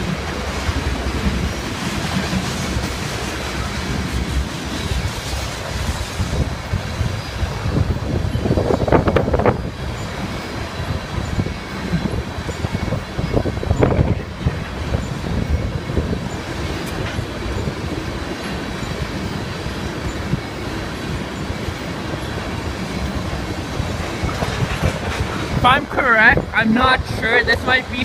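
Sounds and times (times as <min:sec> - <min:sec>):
freight train wheels clattering: 0:00.0 - 0:28.0.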